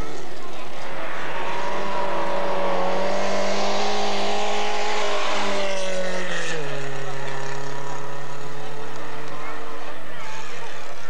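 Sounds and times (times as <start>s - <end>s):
rally car engine running hard: 0.0s - 11.0s.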